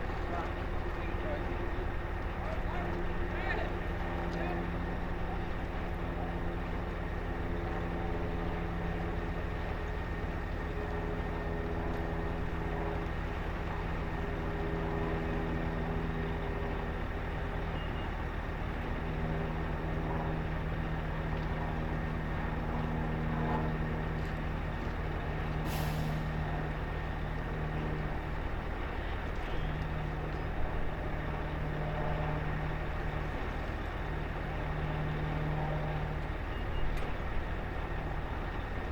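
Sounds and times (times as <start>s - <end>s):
boat engine humming: 0.0s - 38.9s.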